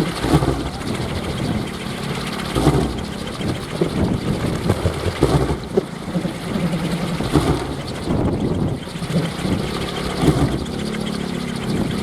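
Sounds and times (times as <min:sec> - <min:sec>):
wooden propellers spinning in wind: 0:00.0 - 0:12.0.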